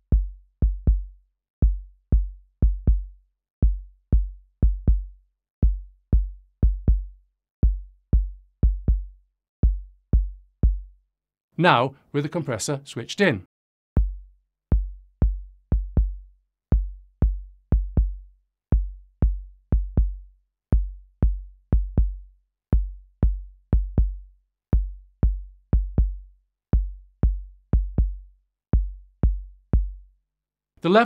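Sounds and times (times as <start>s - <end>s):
electronic kick drum loop: 0.0s - 11.0s, 14.0s - 30.1s.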